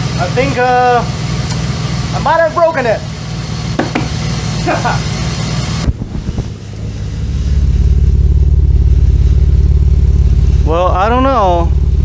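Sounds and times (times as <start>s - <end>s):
car engine idling with misfire: 0.0s - 12.0s.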